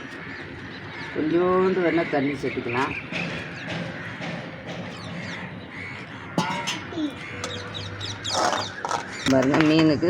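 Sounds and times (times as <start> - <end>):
crows cawing: 0.0 - 9.4.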